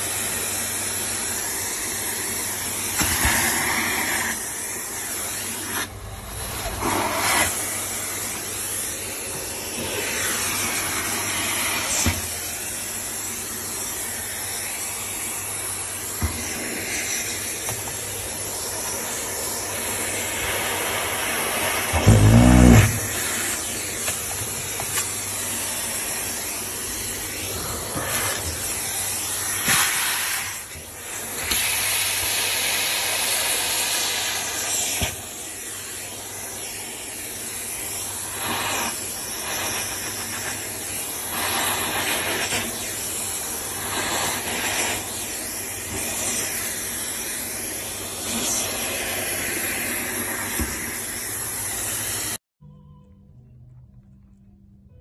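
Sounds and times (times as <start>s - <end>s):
vacuum cleaner sucking air: 0.0s - 52.4s.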